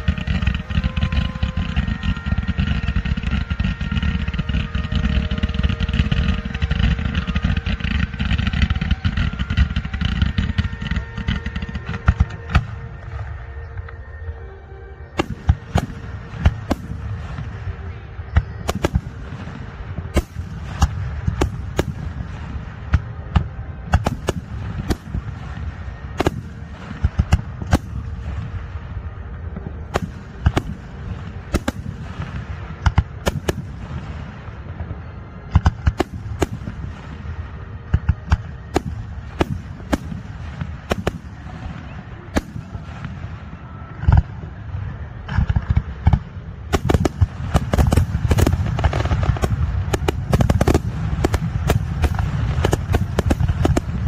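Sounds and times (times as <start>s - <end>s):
fireworks bursting bangs: 0.0s - 13.8s, 15.1s - 54.0s.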